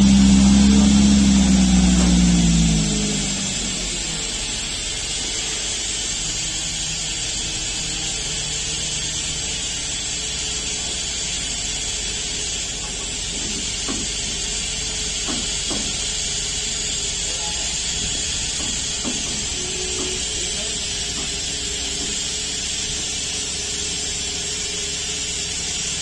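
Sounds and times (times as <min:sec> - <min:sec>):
low machine hum: 0:00.0 - 0:26.0
steady hissing: 0:00.0 - 0:26.0.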